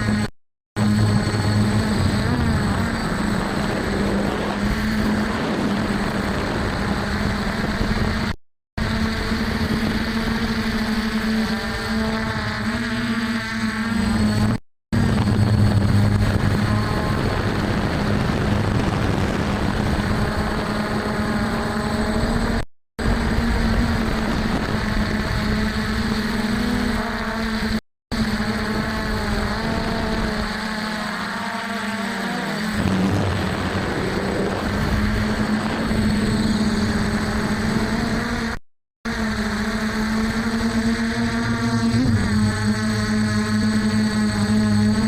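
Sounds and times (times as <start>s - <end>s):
quadcopter propellers humming: 0.0s - 45.0s.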